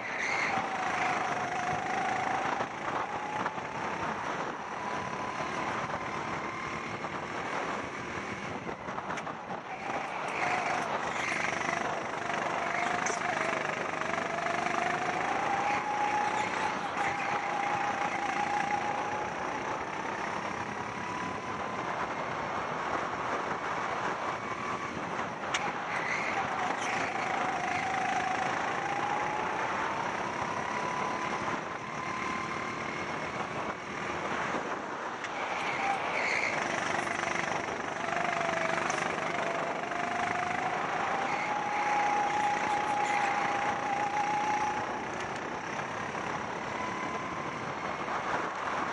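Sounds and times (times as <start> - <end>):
go-kart engine at full throttle: 0.0 - 48.9.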